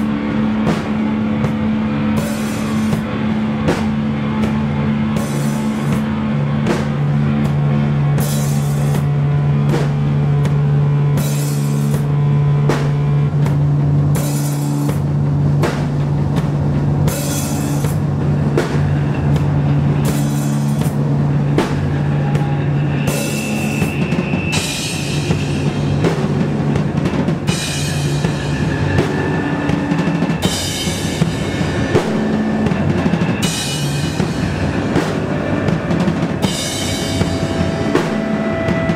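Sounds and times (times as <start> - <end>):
cymbal crashes: 0.0 - 38.9
doom metal band playing: 0.0 - 38.9.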